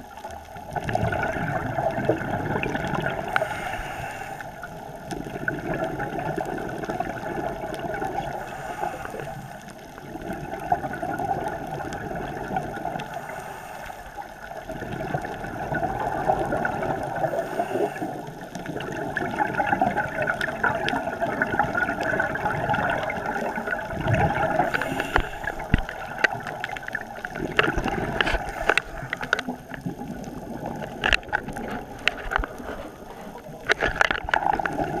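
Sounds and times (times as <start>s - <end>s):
underwater bubbles gurgling: 0.0s - 35.0s.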